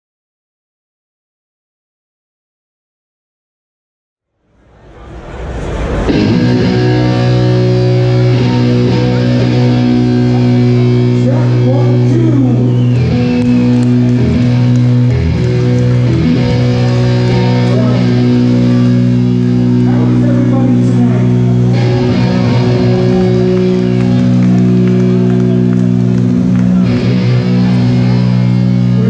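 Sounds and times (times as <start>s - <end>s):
electric guitars droning chords: 4.7s - 29.0s.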